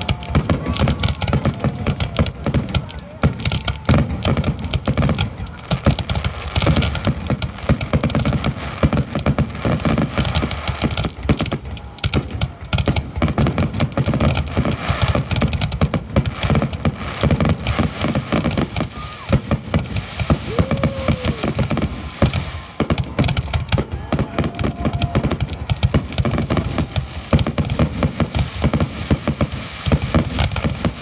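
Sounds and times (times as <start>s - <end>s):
fireworks booms and crackling bangs: 0.0s - 31.0s.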